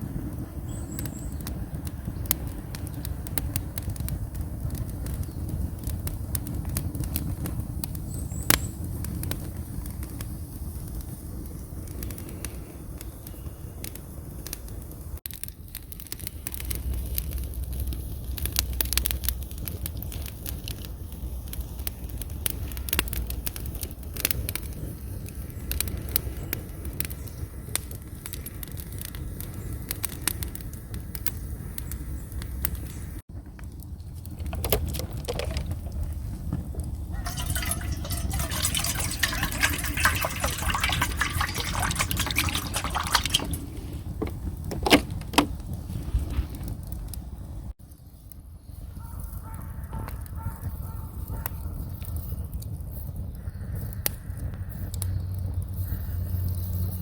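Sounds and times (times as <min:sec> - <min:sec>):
wood fire crackling: 0:00.0 - 0:49.4, 0:50.1 - 0:57.0
low rumble of fire: 0:00.0 - 0:57.0.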